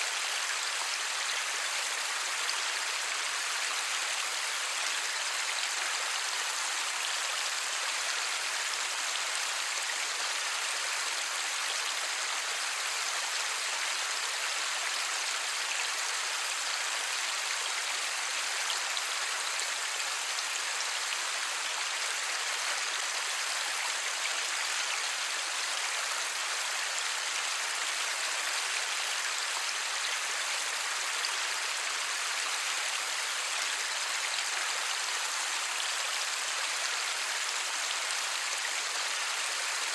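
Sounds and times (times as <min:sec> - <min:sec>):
light rain: 0:00.0 - 0:39.9.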